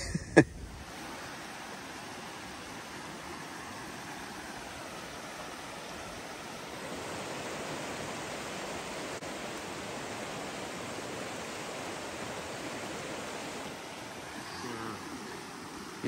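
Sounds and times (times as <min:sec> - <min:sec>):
creek rushing over rocks: 0:00.6 - 0:16.0.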